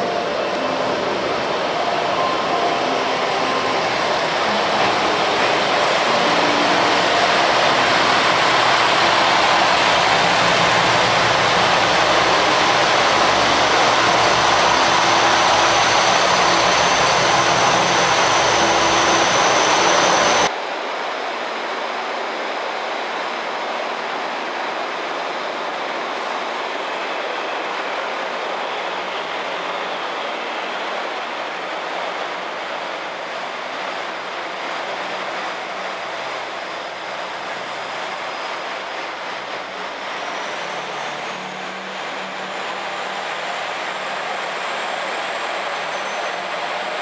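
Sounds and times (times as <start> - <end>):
railcar engine and wheels running: 0.0 - 47.0
railcar passing close by: 0.0 - 47.0.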